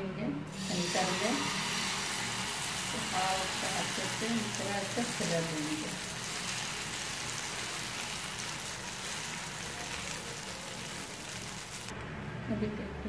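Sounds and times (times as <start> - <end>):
batter sizzling in a frying pan: 0.5 - 11.9.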